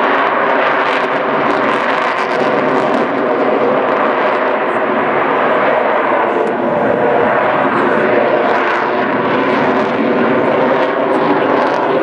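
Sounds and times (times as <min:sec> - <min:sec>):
jet engines in flight: 0:00.0 - 0:12.0.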